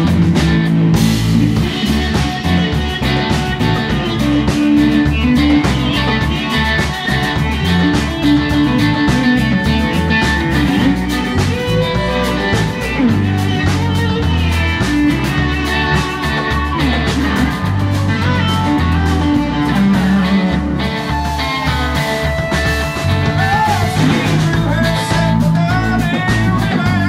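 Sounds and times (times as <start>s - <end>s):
electric bass: 0.0s - 27.0s
electric guitar: 0.0s - 27.0s.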